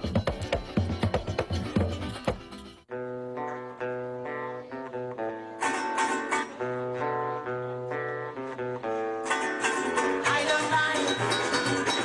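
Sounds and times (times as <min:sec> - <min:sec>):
small guitars playing calypso: 0:00.0 - 0:12.0.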